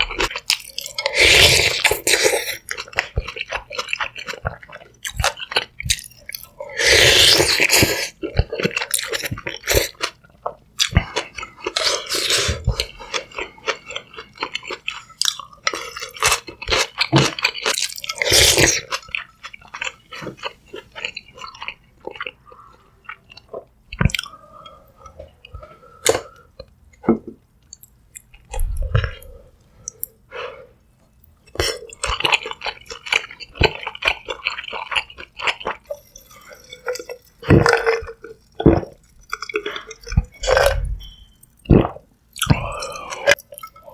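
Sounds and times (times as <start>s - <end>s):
wet chewing and mouth sounds: 0.0s - 30.2s, 31.0s - 43.9s.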